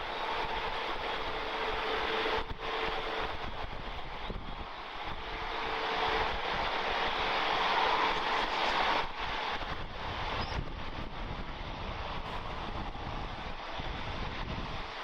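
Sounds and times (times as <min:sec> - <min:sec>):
jet engine roar: 0:00.0 - 0:15.0
wind buffeting microphone: 0:00.0 - 0:15.0.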